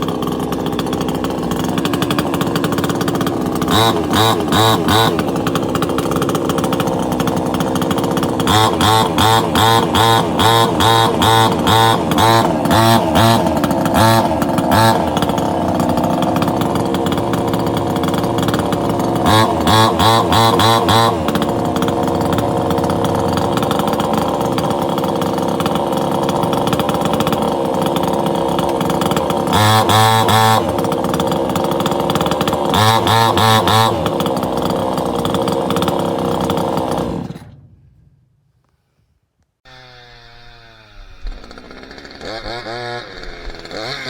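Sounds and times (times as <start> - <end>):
chainsaw engine idling and revving: 0.0 - 38.6, 39.6 - 44.0.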